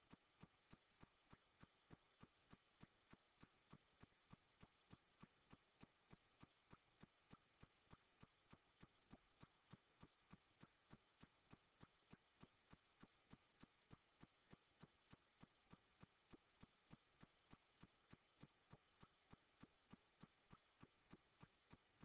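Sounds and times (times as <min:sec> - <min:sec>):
faint regular ticking: 0:00.0 - 0:22.0.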